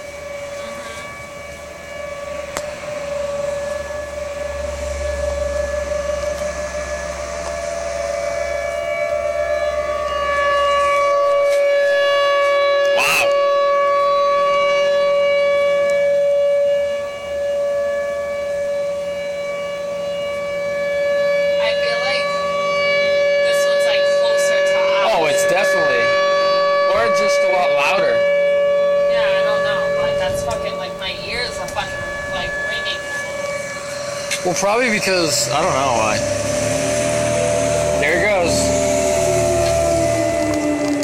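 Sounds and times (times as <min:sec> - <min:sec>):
warning siren wailing: 0:00.0 - 0:41.0.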